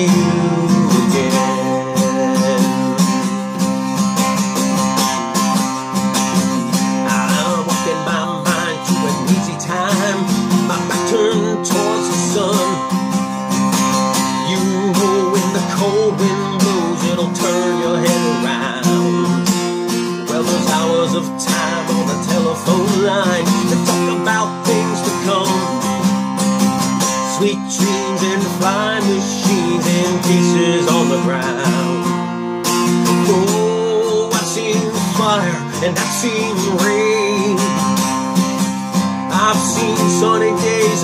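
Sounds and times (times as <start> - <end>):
wordless vocal line: 0.0 - 3.7, 6.3 - 13.2, 14.1 - 26.2, 27.0 - 32.3, 33.0 - 38.2, 39.1 - 41.0
acoustic guitar strumming: 0.0 - 41.0.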